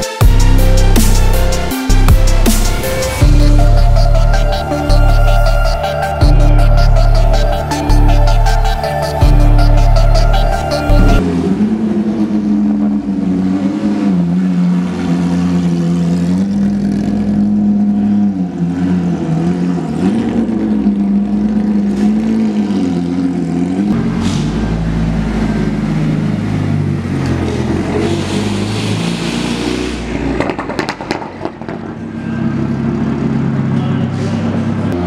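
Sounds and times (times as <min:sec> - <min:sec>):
deep engine rumble: 0:00.0 - 0:35.0
race car engines idling: 0:02.2 - 0:28.7, 0:30.3 - 0:35.0.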